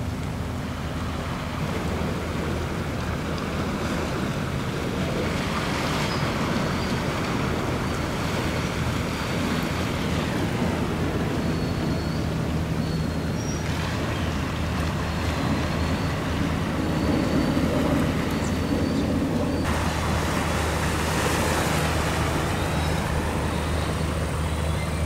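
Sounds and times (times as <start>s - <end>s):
ship engine drone: 0.0s - 25.0s
wind and water noise: 0.0s - 25.0s.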